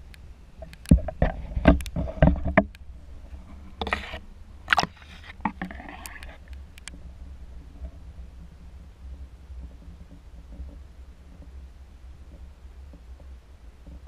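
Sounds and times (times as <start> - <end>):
low rumble of water: 0.0 - 14.0
water splashing and sloshing: 0.6 - 14.0.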